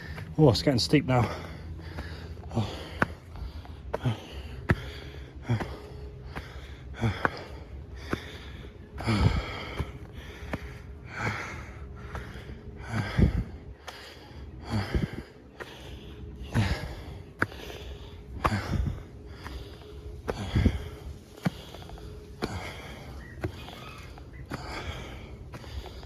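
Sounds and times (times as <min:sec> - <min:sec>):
man breathing hard: 0:00.0 - 0:00.5, 0:01.1 - 0:26.0.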